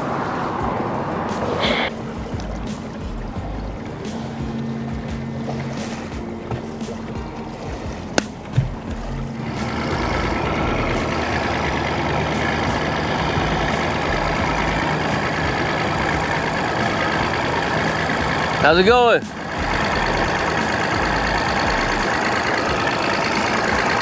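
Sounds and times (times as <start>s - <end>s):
boat motor hum: 0.0s - 24.0s
wind and water rushing: 0.0s - 24.0s.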